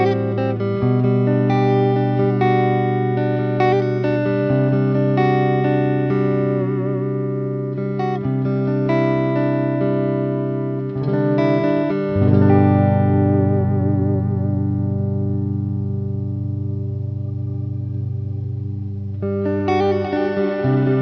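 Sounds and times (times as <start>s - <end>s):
electric guitar chords with reverb: 0.0s - 21.0s.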